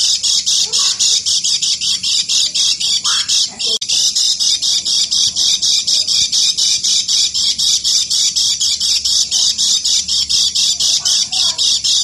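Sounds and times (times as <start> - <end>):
bird harsh scratchy call: 0.0 - 12.0.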